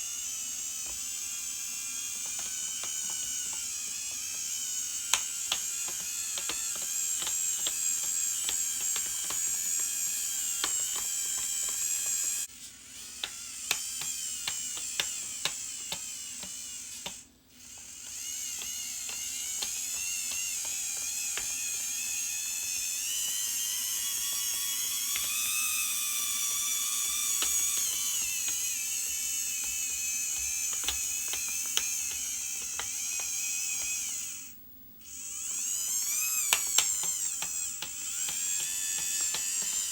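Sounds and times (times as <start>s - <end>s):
small electric motors whining: 0.0s - 39.9s
ticks and clicks: 1.7s - 12.5s, 13.2s - 34.4s, 35.3s - 39.9s.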